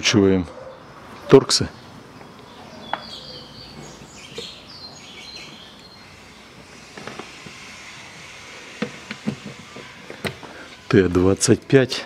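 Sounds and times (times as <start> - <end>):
birds chirping: 0.0 - 12.0
ambient hiss: 0.8 - 12.0.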